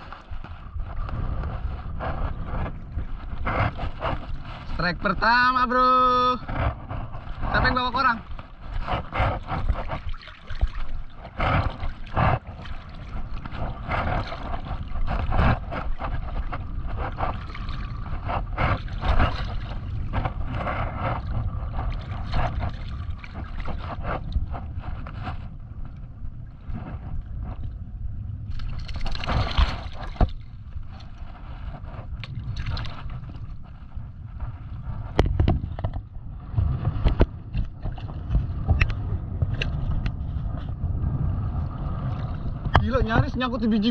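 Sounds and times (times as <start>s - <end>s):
water sloshing and splashing: 0.0s - 43.9s
wind rumble on microphone: 0.0s - 43.9s.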